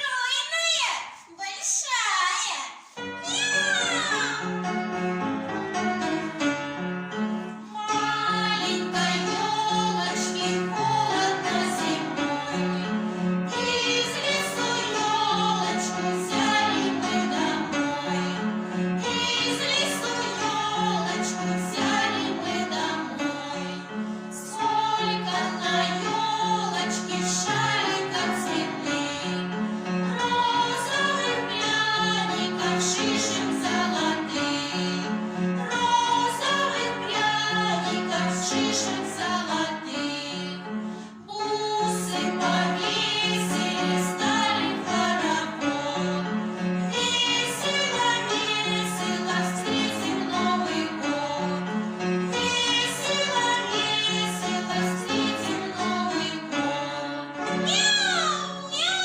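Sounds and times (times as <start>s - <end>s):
group singing: 7.5s - 57.7s.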